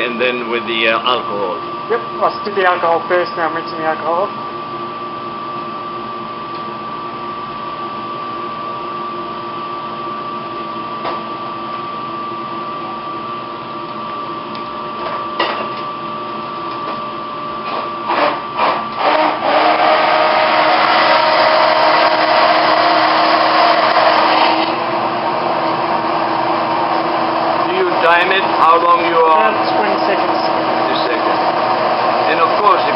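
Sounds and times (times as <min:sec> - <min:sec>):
immersion blender running: 0:00.0 - 0:15.0, 0:16.0 - 0:32.9.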